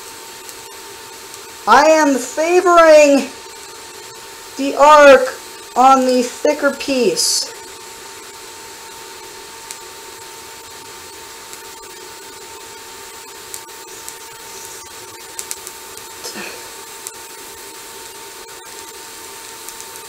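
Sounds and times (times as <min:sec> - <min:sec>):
electrical hum: 0:00.0 - 0:20.0
welding arc hissing: 0:00.0 - 0:20.0
welding crackles and pops: 0:00.0 - 0:20.0.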